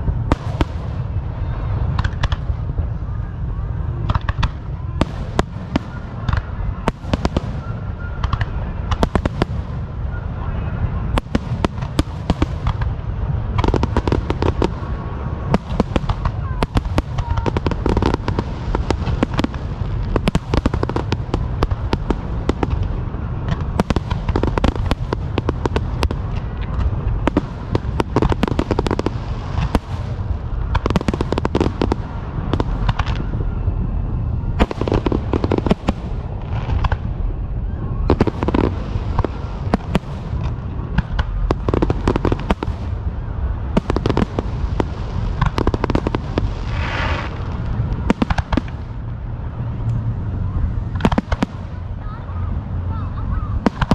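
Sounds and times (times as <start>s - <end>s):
fireworks bangs and crackling pops: 0.0s - 33.7s, 34.5s - 53.9s
low rumble: 0.0s - 53.9s.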